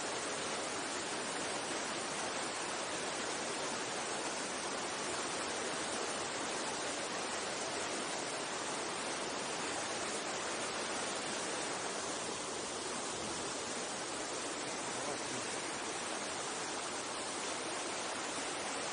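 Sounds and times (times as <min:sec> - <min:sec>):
mountain stream water rushing: 0:00.0 - 0:18.9.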